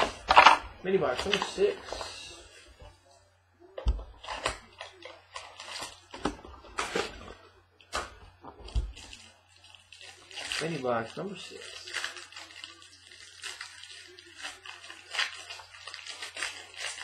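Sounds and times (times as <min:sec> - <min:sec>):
wrapper rustling: 0:00.0 - 0:02.7, 0:04.2 - 0:07.4, 0:08.9 - 0:17.0.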